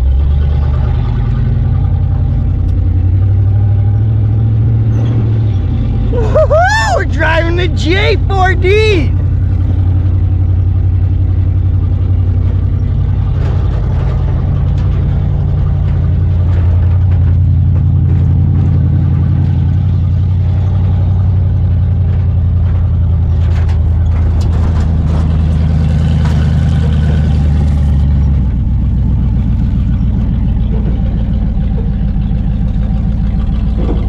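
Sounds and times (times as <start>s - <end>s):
truck engine running: 0.0s - 34.0s.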